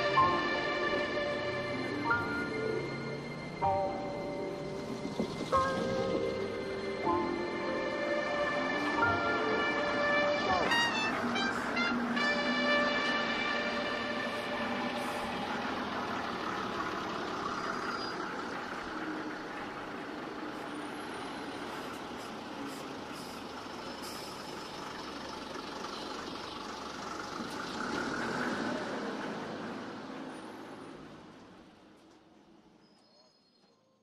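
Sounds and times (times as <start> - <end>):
traffic rumble and hiss: 0.0 - 32.8.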